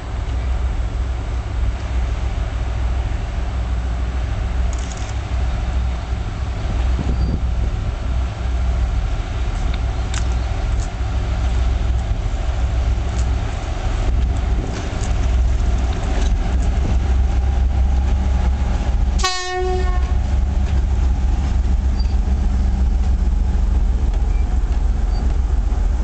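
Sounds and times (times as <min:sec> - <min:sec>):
diesel locomotive engine drone: 0:00.0 - 0:26.0.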